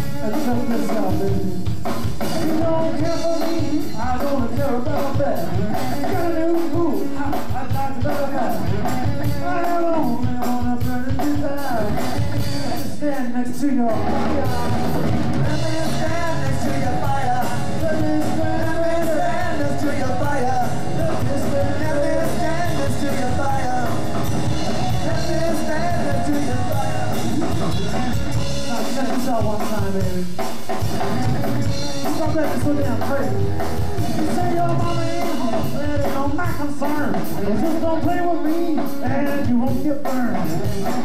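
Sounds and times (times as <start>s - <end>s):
drum kit beat: 0.0s - 41.0s
electric bass: 0.0s - 41.0s
electric guitar: 0.0s - 41.0s
man singing: 0.0s - 41.0s.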